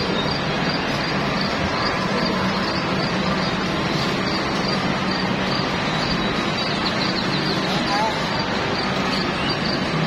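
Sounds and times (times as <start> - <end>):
carousel machine hum: 0.0 - 10.0.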